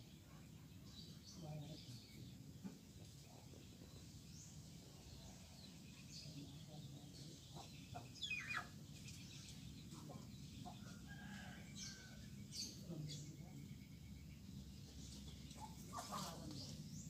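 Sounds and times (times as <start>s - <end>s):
faint outdoor hum: 0.0s - 17.0s.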